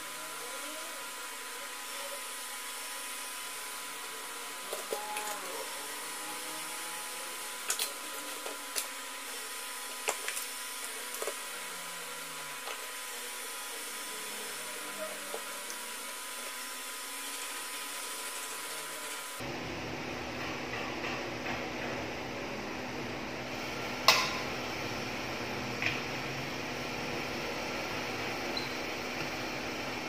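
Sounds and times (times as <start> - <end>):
steady background whir: 0.0 - 30.0.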